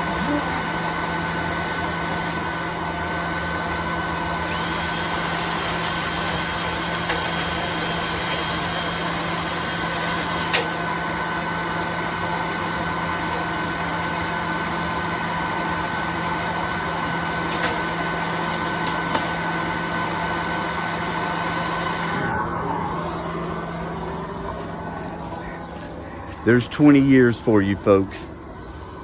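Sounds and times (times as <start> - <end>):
blower motor humming and whining: 0.0 - 29.0.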